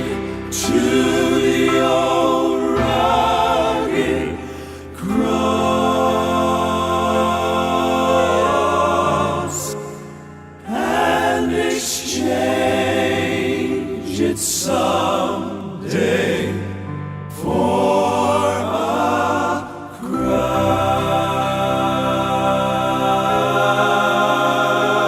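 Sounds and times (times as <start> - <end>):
male quartet singing in harmony: 0.0 - 25.0.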